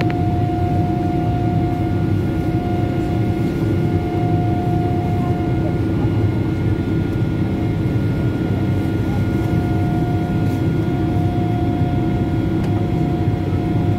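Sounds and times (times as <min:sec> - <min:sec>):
jet engine drone: 0:00.0 - 0:13.9
thin steady whine: 0:00.0 - 0:13.9.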